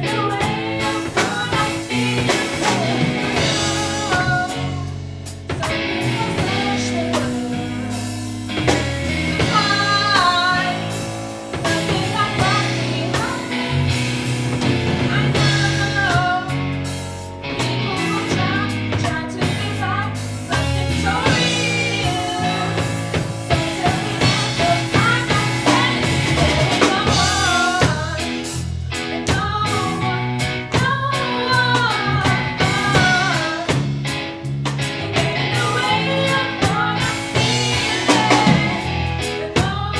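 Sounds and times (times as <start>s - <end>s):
person singing: 0.0s - 5.0s, 5.6s - 16.8s, 17.5s - 34.0s, 34.8s - 39.9s
drums: 0.0s - 39.9s
guitar: 0.0s - 39.9s.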